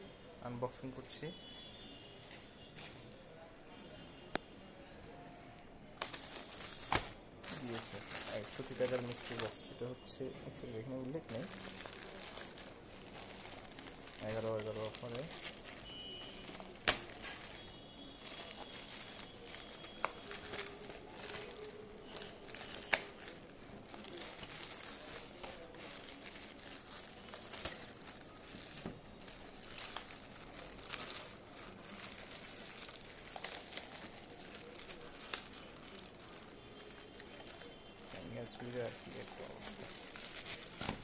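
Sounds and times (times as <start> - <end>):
plastic bag crinkling: 6.0 - 41.0.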